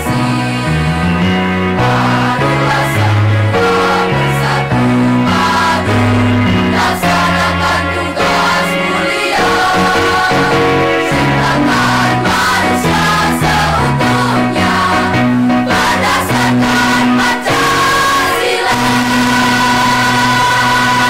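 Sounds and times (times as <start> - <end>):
children's choir singing: 0.0 - 21.0.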